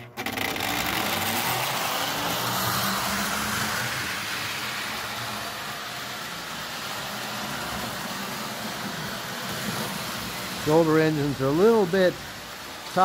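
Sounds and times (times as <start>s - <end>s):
model train motor whirring: 0.0s - 13.0s
model train wheels rolling: 0.0s - 13.0s.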